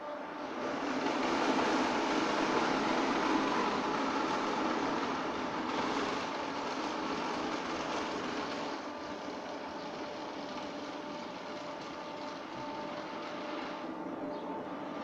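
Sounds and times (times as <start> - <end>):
car wash brushes spinning: 0.6 - 14.0.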